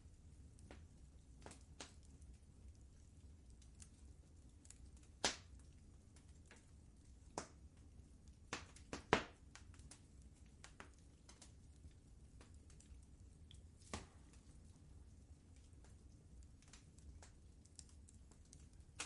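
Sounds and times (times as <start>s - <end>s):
fire crackling and popping: 0.0s - 19.0s
low steady rumble: 0.0s - 19.0s.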